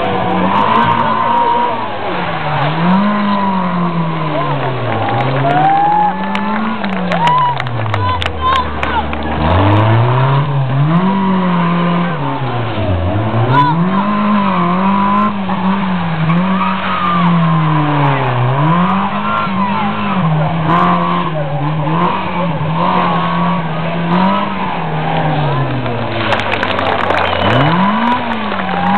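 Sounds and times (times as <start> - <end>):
rally car engine revving: 0.0 - 28.9
tyres squealing on tarmac: 0.0 - 28.9.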